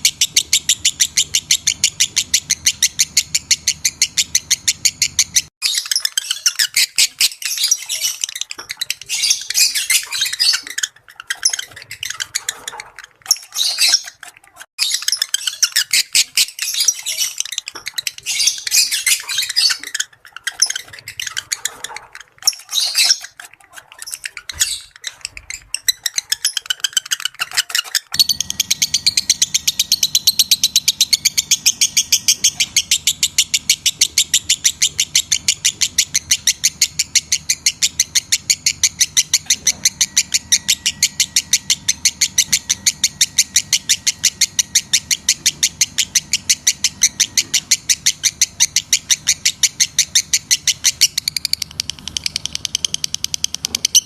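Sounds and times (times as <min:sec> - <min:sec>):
lovebird chirping: 0:00.0 - 0:54.0.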